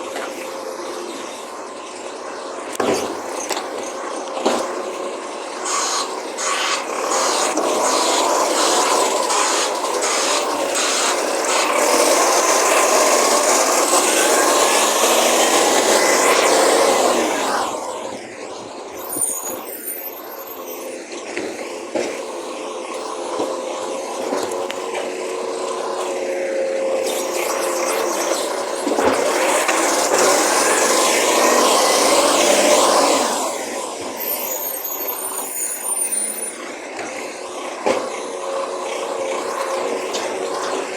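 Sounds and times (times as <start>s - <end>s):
truck engine and hydraulics: 0.0s - 40.9s.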